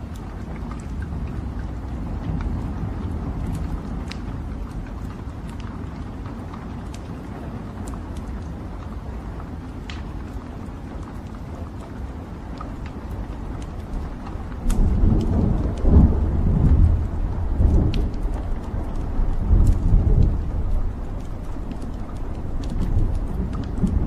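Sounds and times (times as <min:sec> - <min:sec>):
fire crackling and popping: 0:00.0 - 0:24.0
low rumble of fire: 0:00.0 - 0:24.0.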